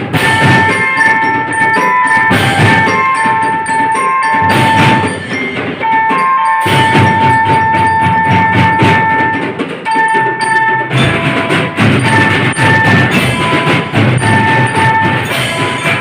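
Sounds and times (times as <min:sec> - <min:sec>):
drum band playing: 0:00.0 - 0:16.0
melody of held notes: 0:00.0 - 0:16.0.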